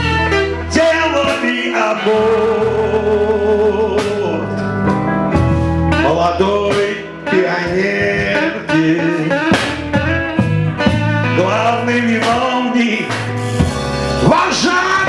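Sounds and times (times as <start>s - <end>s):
person singing melody: 0.0s - 15.0s
reggae band playing: 0.0s - 15.0s.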